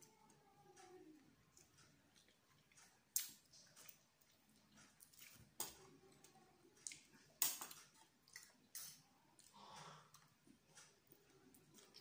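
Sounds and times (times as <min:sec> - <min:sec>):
quiet chewing: 0:00.0 - 0:12.0.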